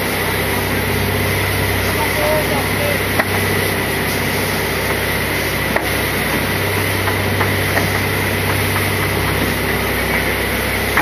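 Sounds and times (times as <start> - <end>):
boat engine drone: 0.0 - 11.0
high whine: 0.0 - 11.0.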